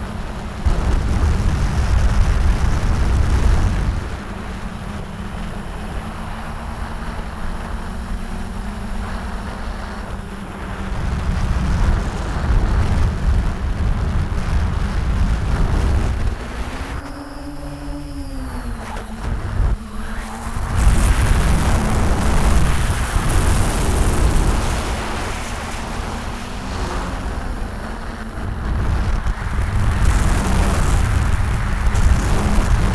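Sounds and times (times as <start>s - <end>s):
drone motors humming: 0.0s - 32.9s
low rumbling buffeting: 0.0s - 32.9s.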